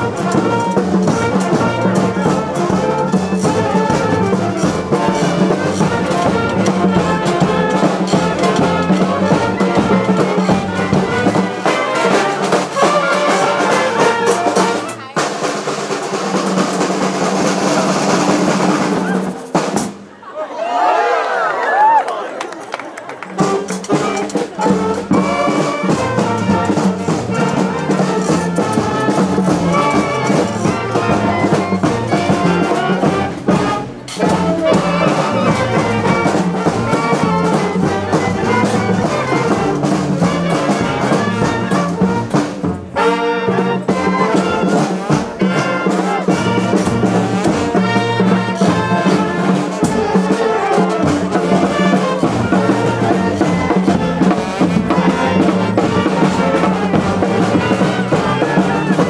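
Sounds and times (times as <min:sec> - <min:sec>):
street brass band playing: 0:00.0 - 0:20.2, 0:22.8 - 0:59.0.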